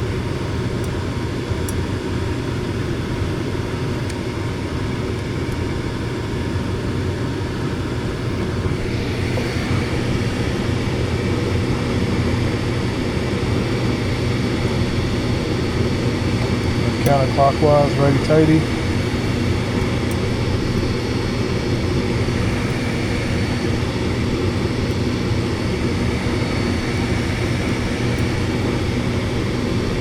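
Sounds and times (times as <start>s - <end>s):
furnace fan droning: 0.0s - 30.0s.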